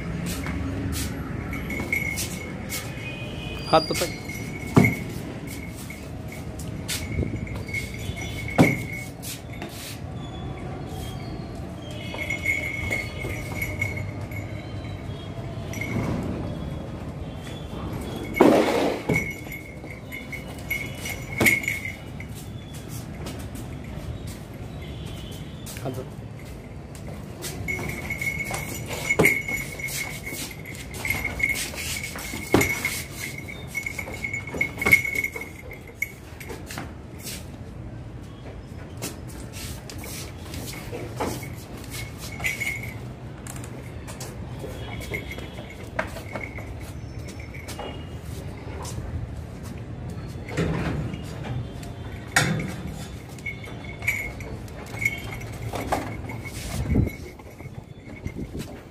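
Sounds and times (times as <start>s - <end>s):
goat hooves on concrete: 0.0s - 10.0s, 11.9s - 14.6s, 15.7s - 37.8s, 38.4s - 58.9s
thin ringing: 1.2s - 16.3s, 17.2s - 37.5s, 39.3s - 49.0s, 50.1s - 58.9s
collar clinking: 1.4s - 9.8s, 11.0s - 16.1s, 17.4s - 25.4s, 26.4s - 37.3s, 39.3s - 49.0s, 50.1s - 58.9s.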